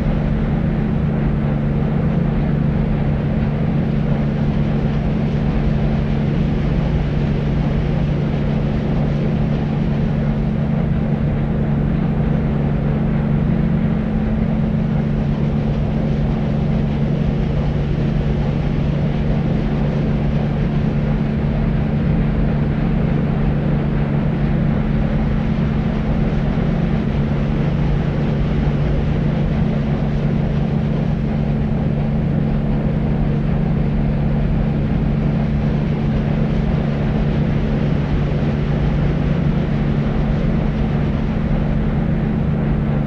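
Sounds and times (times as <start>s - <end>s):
constant low hum: 0.0s - 43.0s.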